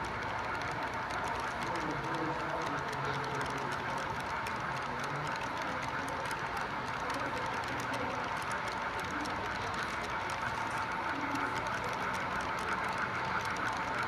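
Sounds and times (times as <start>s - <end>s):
model train rolling with whine: 0.0s - 14.0s
wheels clicking over rails: 0.0s - 14.0s.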